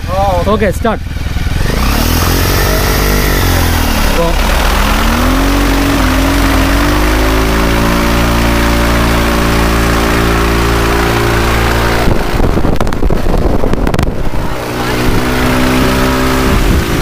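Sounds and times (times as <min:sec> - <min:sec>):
engine driving propeller: 0:00.0 - 0:17.0.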